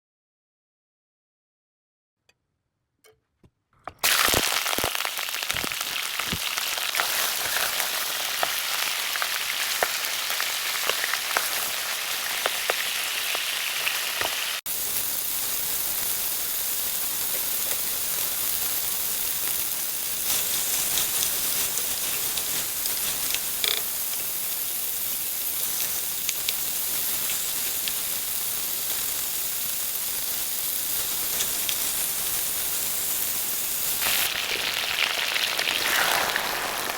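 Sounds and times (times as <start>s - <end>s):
food sizzling in hot oil: 4.0s - 36.9s
oil crackling and popping: 4.0s - 36.9s.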